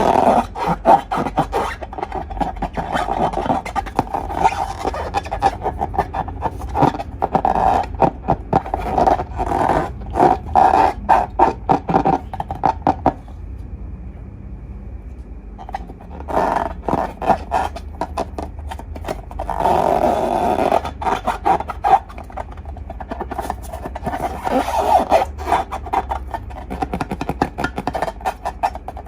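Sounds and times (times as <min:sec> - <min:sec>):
slime squishing and crackling: 0:00.0 - 0:13.2, 0:15.6 - 0:29.0
slime squelching stretch: 0:00.0 - 0:13.3, 0:15.6 - 0:29.0.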